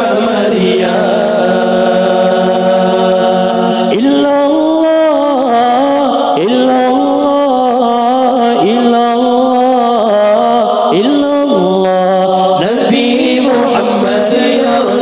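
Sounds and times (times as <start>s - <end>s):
men chanting through microphones: 0.0s - 15.0s.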